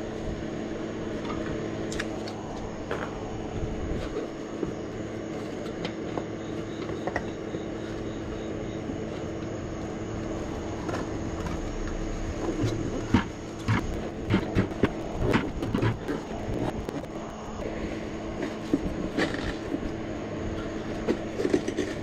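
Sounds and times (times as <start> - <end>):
machine hum: 0.0 - 22.0
tire knocks and rubbery rustles: 2.6 - 17.7, 18.3 - 22.0.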